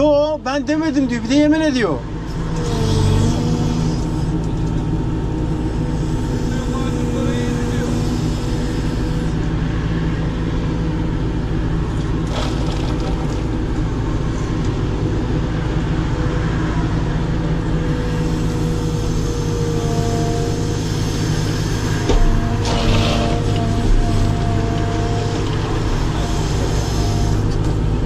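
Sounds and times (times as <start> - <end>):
diesel engine running: 0.0 - 28.0
hydraulic whine: 2.1 - 28.0.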